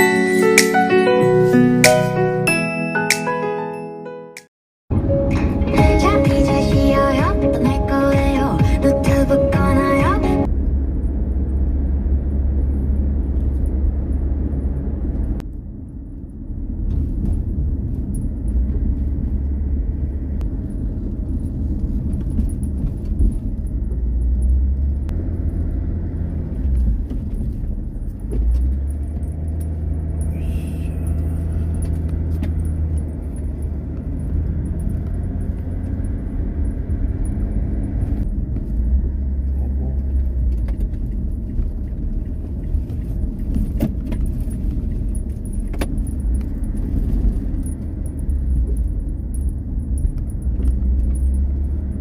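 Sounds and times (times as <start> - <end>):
car road rumble: 4.9 - 52.0.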